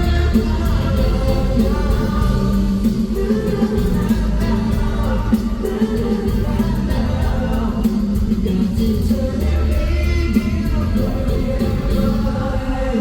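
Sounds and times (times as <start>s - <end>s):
pop song over concert speakers: 0.0s - 13.0s.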